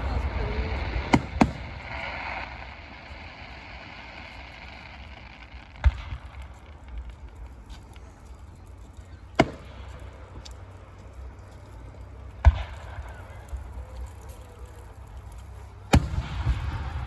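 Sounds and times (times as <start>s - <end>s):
firework bangs: 0.0s - 11.0s, 11.9s - 17.0s
steady low rumble: 0.0s - 17.0s.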